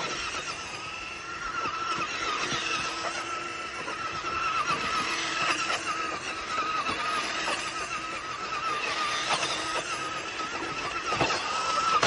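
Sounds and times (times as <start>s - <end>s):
electric motor whining: 0.0s - 12.0s
tyres churning snow: 0.0s - 12.0s.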